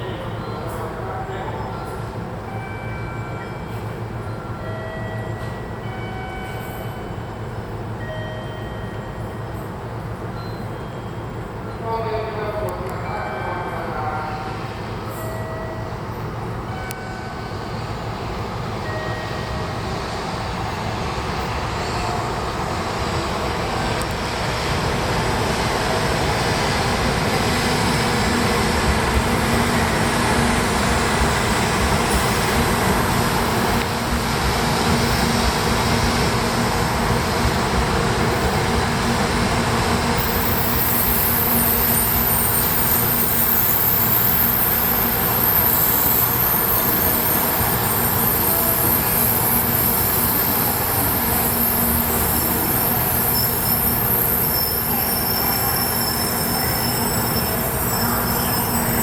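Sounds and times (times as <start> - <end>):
train wheel and running noise: 0.0 - 59.0.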